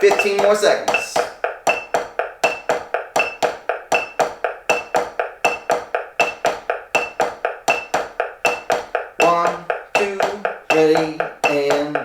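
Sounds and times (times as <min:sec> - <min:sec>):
drumsticks on rubber practice pad: 0:00.0 - 0:12.0
metronome beeping: 0:00.0 - 0:12.0.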